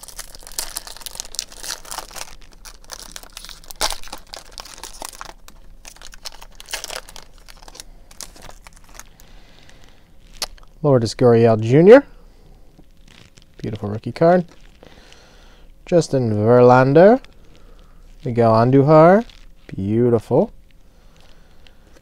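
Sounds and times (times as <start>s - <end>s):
foil wrapper crinkling: 0.0s - 10.8s, 12.6s - 15.6s, 16.3s - 22.0s.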